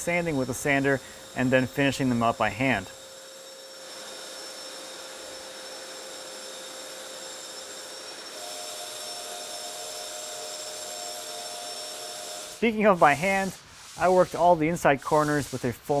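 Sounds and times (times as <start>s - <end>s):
drywall sander hissing: 0.0s - 16.0s.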